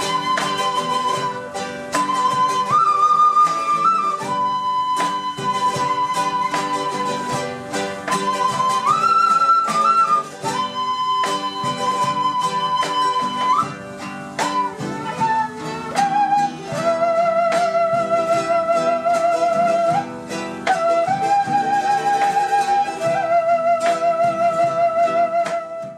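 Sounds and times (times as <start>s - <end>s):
strummed acoustic guitars: 0.0s - 25.9s
wooden flute long notes: 0.0s - 25.9s.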